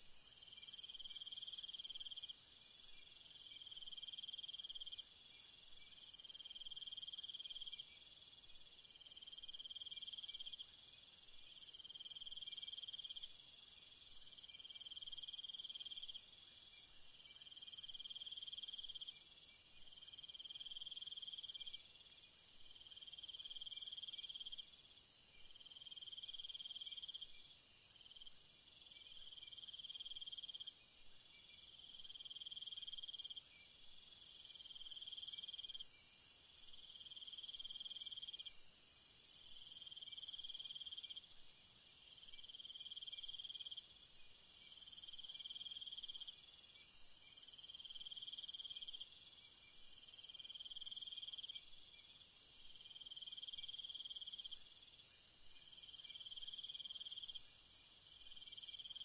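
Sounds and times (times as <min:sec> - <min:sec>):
high steady insect buzz: 0:00.0 - 0:59.0.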